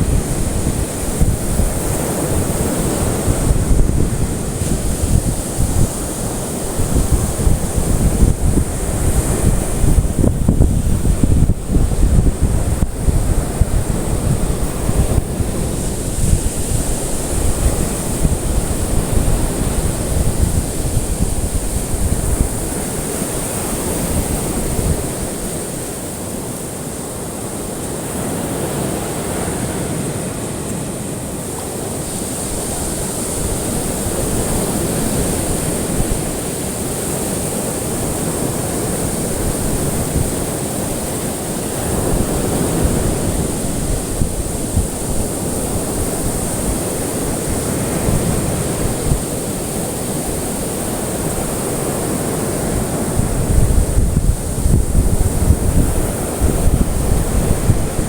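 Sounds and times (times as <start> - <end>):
ocean waves rushing: 0.0 - 58.0.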